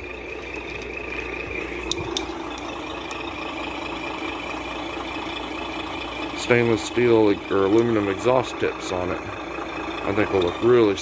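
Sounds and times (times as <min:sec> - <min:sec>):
simulated diesel engine idling: 0:00.0 - 0:11.0.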